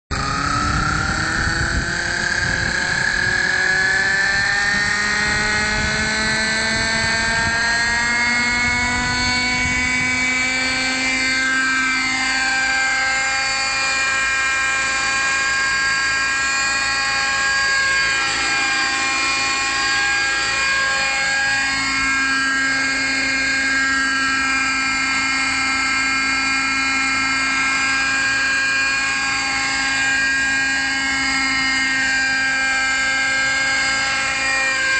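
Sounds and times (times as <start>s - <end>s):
model helicopter motor whine: 0.1s - 34.9s.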